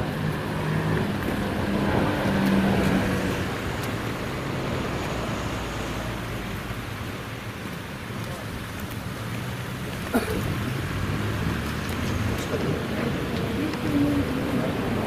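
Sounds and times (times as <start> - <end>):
outdoor noise: 0.0 - 15.0.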